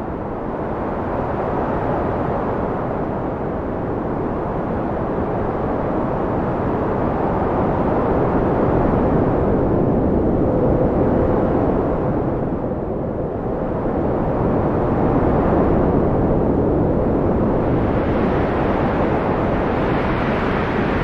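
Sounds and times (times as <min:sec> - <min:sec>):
steady wind rushing: 0:00.0 - 0:21.0.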